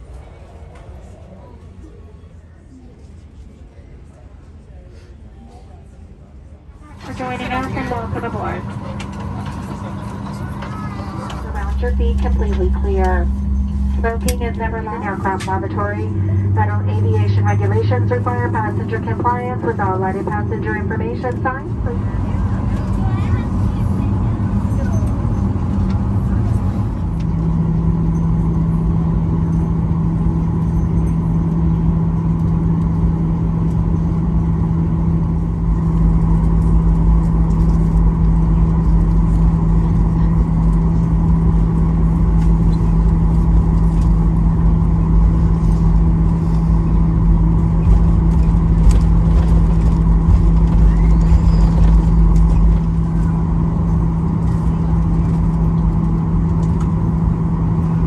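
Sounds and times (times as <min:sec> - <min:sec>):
airplane cabin hum: 0:00.0 - 0:58.0
deep rumble: 0:06.8 - 0:58.0.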